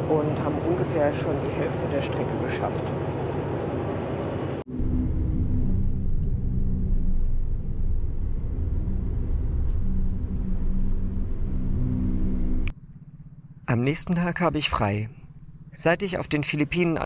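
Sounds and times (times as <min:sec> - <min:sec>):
ferry engine droning: 0:00.0 - 0:17.0.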